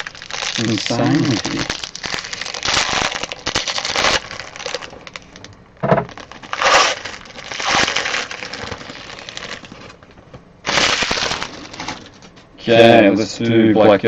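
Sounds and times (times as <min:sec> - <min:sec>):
plastic wrappers tearing and crinkling: 0:00.0 - 0:12.3.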